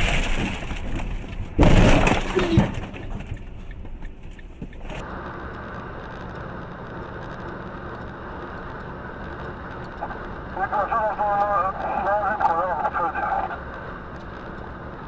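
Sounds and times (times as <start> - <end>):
vehicle running and road noise: 0.0 - 15.0.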